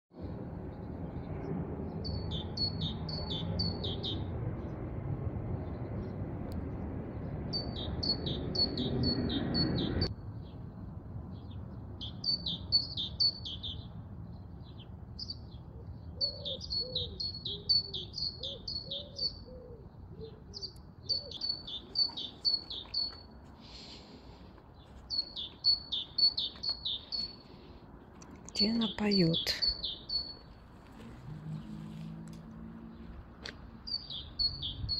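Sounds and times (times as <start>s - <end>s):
songbird singing: 0.7s - 4.8s, 5.6s - 34.9s.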